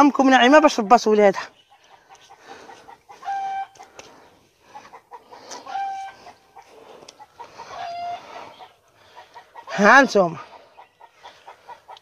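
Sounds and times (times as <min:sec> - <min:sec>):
chicken clucking: 0:01.6 - 0:12.0.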